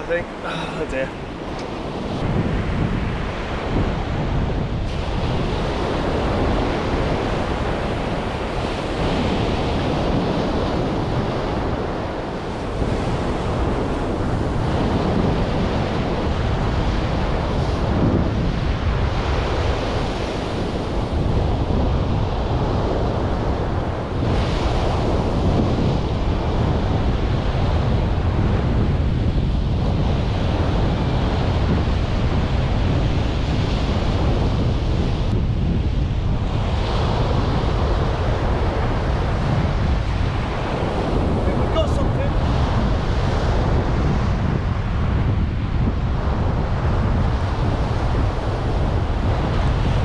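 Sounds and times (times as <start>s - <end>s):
surf washing onto beach: 0.0s - 50.0s
wind buffeting microphone: 0.0s - 50.0s.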